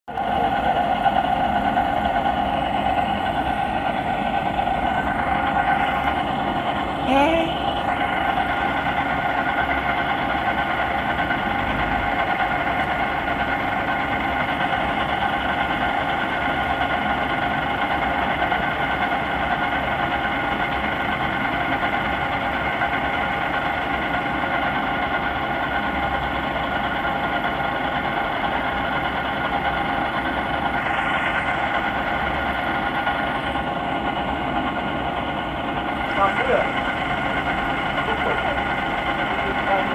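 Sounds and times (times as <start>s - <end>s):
engine humming steadily: 0.1s - 39.9s.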